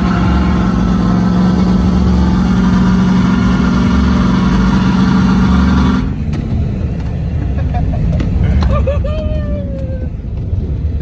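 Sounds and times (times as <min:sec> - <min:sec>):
truck engine running: 0:00.0 - 0:08.9.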